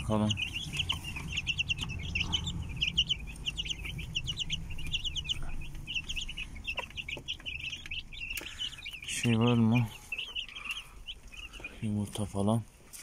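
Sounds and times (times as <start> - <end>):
steady low rumble: 0.0 - 12.7
chicks peeping: 0.0 - 13.0.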